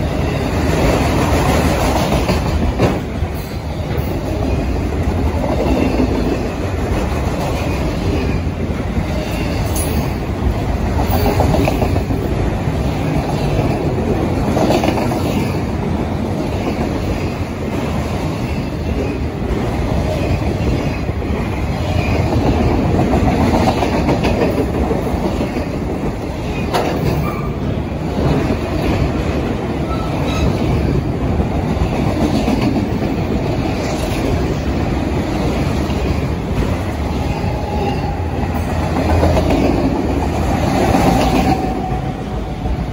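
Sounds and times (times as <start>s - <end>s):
steel wheels rumbling on rails: 0.0s - 42.9s.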